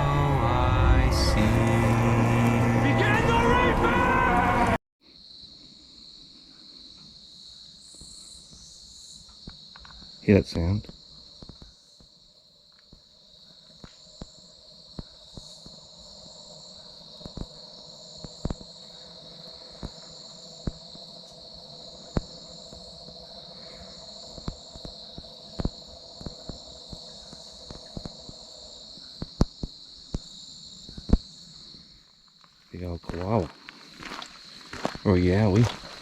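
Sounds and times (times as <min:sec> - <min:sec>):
insects chirping: 0:05.0 - 0:36.0.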